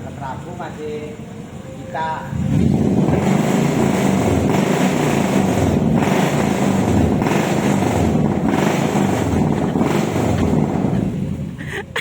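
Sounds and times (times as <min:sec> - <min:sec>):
vehicle engine running: 0:02.3 - 0:12.0.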